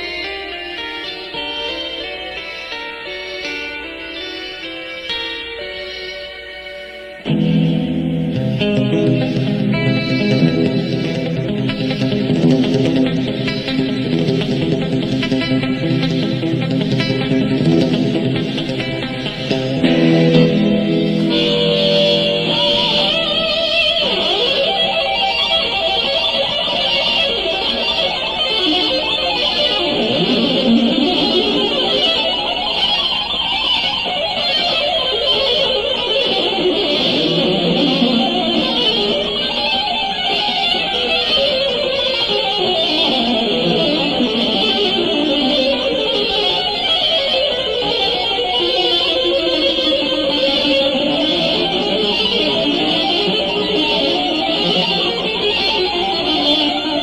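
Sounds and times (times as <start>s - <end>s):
electric guitar fast running notes: 7.2s - 57.0s.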